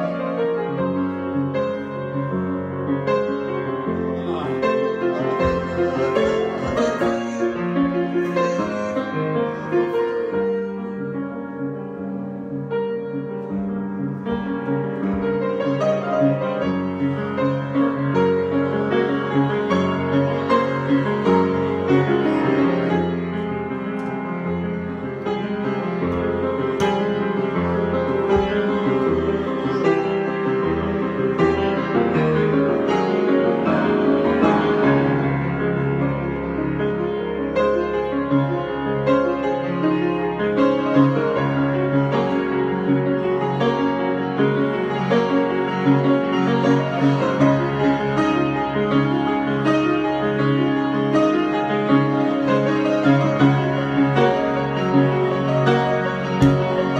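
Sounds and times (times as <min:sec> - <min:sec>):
solo piano improvisation: 0:00.0 - 0:56.9.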